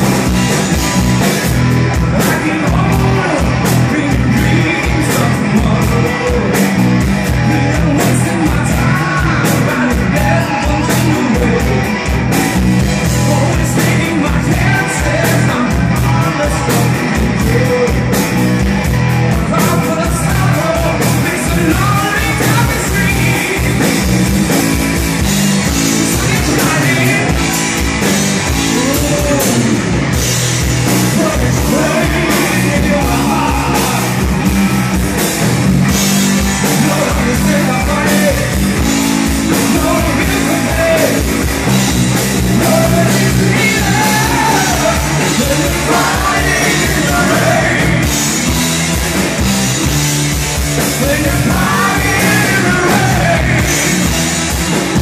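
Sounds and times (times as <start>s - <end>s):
person singing lead vocal: 0.0s - 24.7s, 25.6s - 48.8s, 50.8s - 55.0s
rock band playing: 0.0s - 55.0s
steady drum beat: 0.0s - 55.0s.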